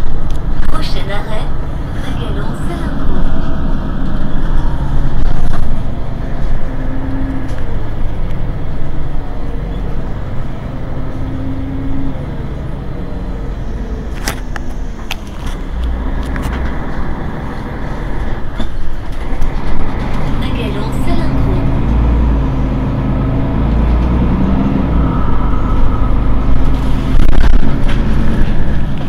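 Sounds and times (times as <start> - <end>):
bus engine rumbling: 0.0 - 29.0.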